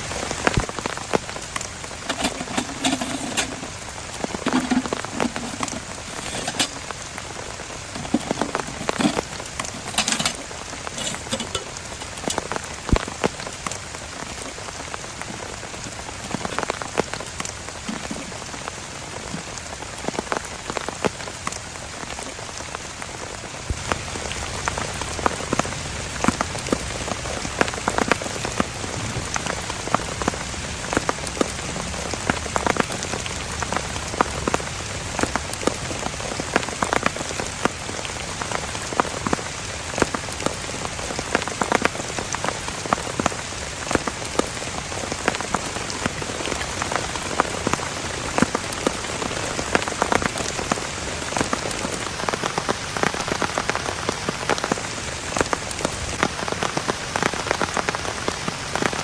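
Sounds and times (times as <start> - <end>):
heavy rain falling: 0.0 - 59.0
raindrops striking a surface: 0.0 - 59.0.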